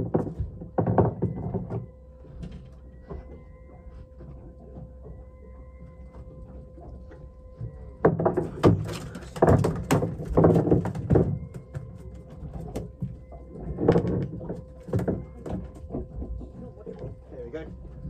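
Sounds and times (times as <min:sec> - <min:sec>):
faint steady hum: 0:00.0 - 0:18.0
irregular knocks and thumps: 0:00.0 - 0:18.0.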